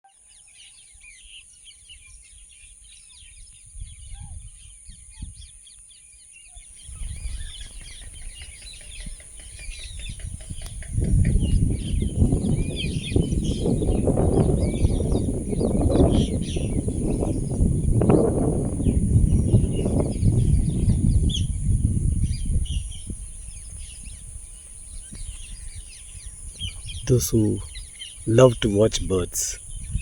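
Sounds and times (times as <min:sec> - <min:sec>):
many birds chirping: 0:00.1 - 0:30.0.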